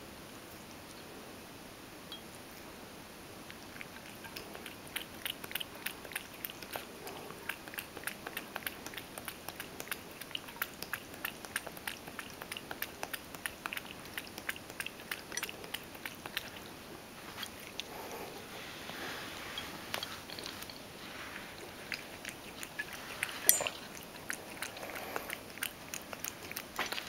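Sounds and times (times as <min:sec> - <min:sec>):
cat chewing with crisp clicks: 0:03.4 - 0:18.5, 0:19.6 - 0:27.0.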